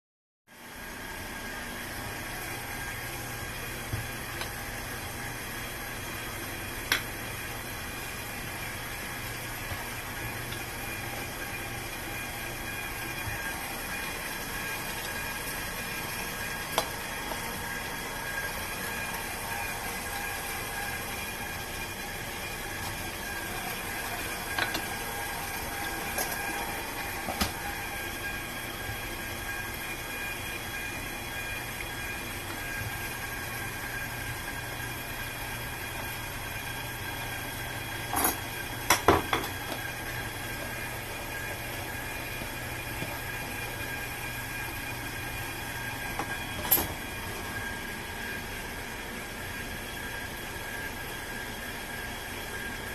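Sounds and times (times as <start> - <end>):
stand mixer running: 0.6 - 52.9
meat grinder grinding: 1.4 - 52.9.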